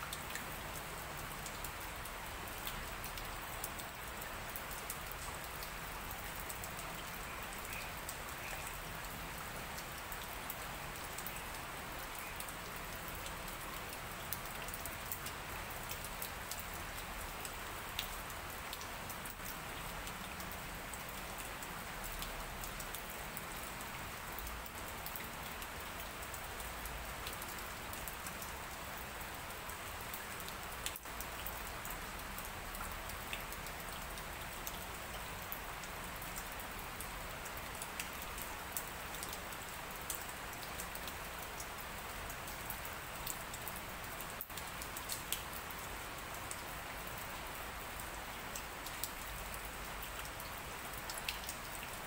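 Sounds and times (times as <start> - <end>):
steady light rain: 0.0 - 52.0
raindrop ticks: 1.4 - 23.6, 24.4 - 46.6, 48.5 - 52.0.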